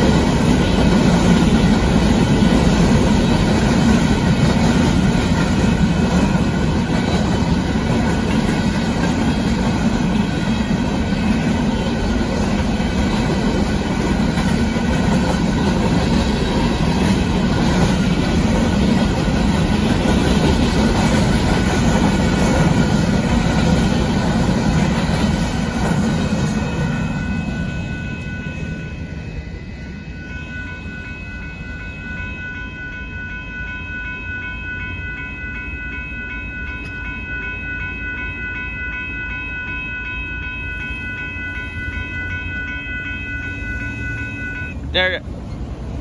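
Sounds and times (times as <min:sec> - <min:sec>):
crossing signal bell ringing: 0:00.0 - 0:46.0
freight train rolling past: 0:00.0 - 0:46.0.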